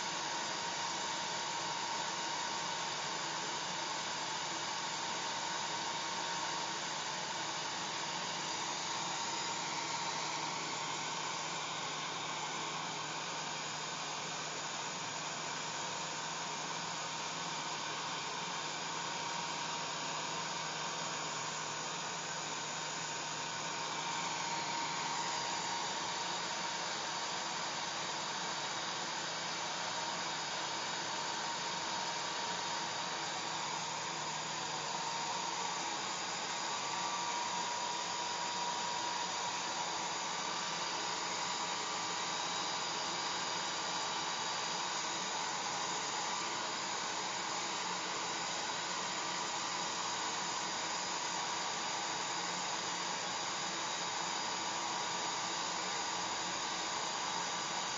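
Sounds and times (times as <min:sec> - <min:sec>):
faint motor whine: 0:00.0 - 0:57.9
hair dryer blowing air: 0:00.0 - 0:57.9.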